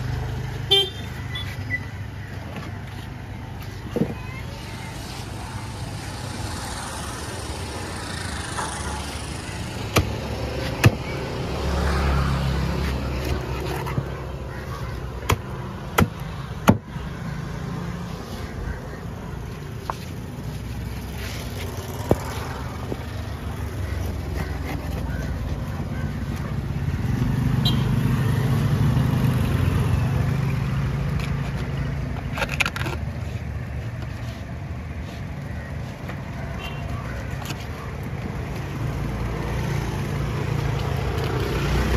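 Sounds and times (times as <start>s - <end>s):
vehicle engine rumble: 0.0s - 41.9s.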